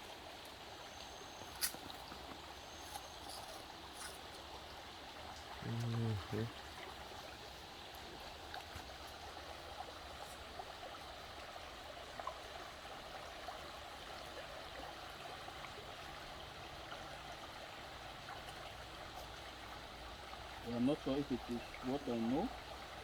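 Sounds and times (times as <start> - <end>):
stream of running water: 0.0 - 23.0.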